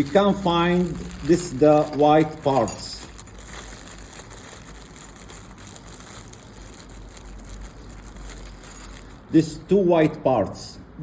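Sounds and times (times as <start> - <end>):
plastic bag rustling: 0.0 - 9.3.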